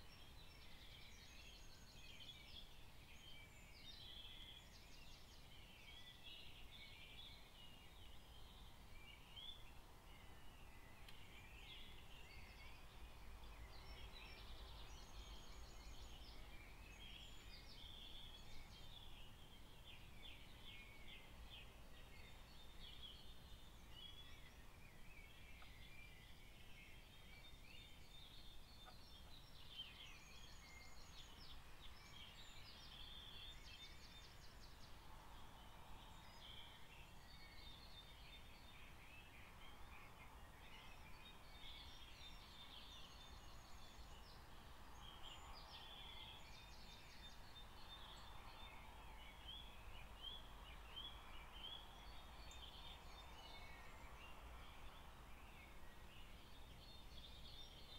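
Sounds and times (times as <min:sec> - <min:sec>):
faint bird song: 0:00.0 - 0:57.9.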